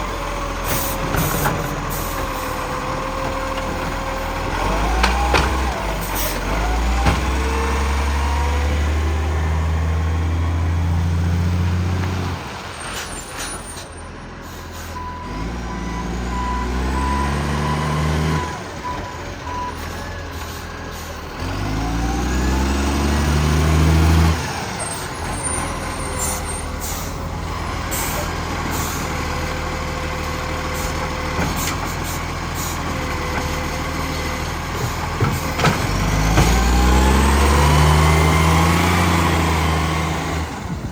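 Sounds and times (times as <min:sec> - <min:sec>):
diesel truck engine revving: 0:00.0 - 0:40.9.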